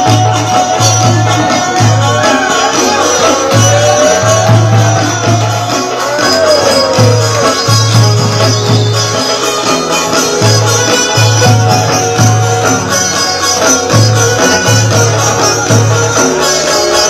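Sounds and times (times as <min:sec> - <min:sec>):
plucked sitar melody: 0:00.0 - 0:17.0
rhythmic accompaniment: 0:00.0 - 0:17.0.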